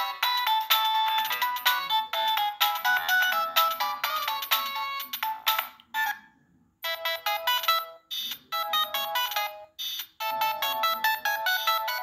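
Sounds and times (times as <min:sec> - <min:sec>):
mobile phone polyphonic ringtone: 0:00.0 - 0:06.2, 0:06.8 - 0:12.0.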